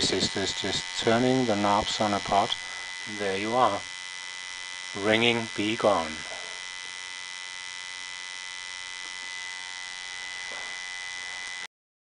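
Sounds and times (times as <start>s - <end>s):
electrical hum with high whine: 0.0s - 11.7s.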